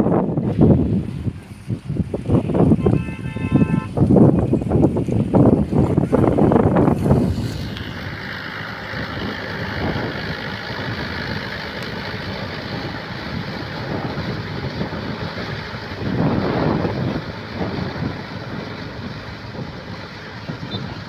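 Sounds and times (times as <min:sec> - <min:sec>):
tractor engine running: 0:04.0 - 0:21.0.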